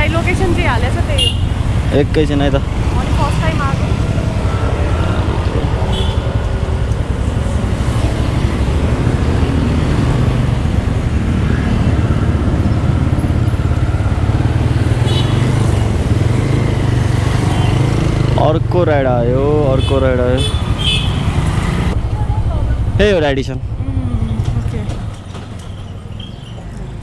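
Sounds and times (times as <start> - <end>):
motorcycle engine: 0.0 - 27.0.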